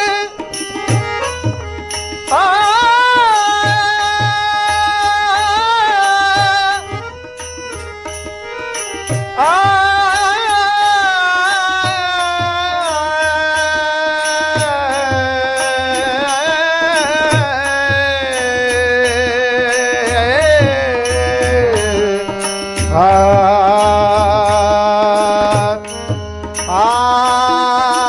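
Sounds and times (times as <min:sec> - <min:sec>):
harmonium: 0:00.0 - 0:28.0
tabla: 0:00.0 - 0:28.0
man singing long notes: 0:02.2 - 0:07.1, 0:09.3 - 0:28.0.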